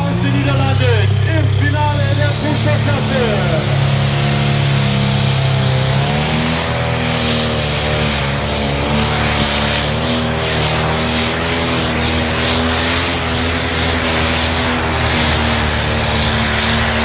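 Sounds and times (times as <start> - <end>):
tractor diesel engine at full load: 0.0 - 17.0.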